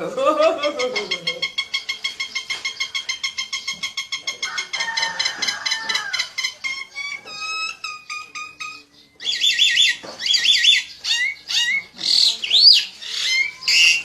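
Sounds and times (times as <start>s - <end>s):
small bird chirping: 0.6s - 14.0s.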